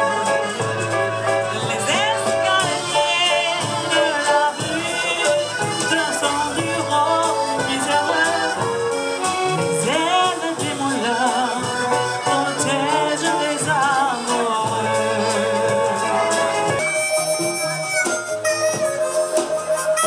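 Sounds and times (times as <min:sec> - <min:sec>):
accordion playing chanson melody: 0:00.0 - 0:20.0
double bass line: 0:00.0 - 0:20.0
light regular percussion: 0:00.0 - 0:20.0.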